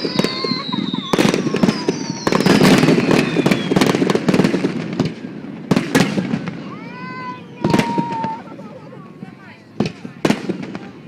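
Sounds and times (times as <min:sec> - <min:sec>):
crackle of firework bursts: 0:00.0 - 0:11.0
loud firework bangs: 0:00.0 - 0:11.0.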